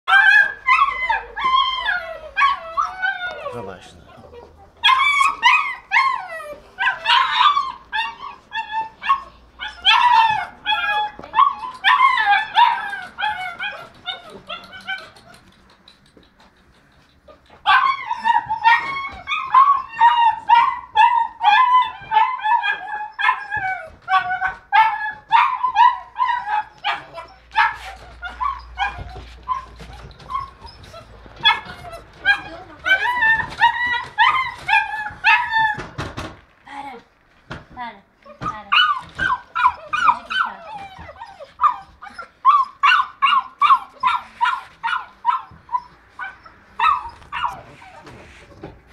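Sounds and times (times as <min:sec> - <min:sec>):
puppies yipping and barking: 0:00.1 - 0:36.3, 0:38.3 - 0:48.9.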